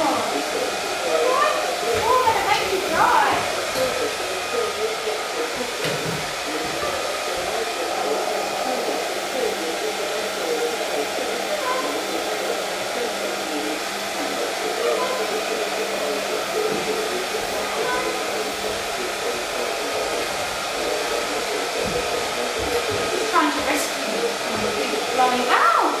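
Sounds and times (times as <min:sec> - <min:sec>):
hair dryer blowing: 0:00.0 - 0:26.0.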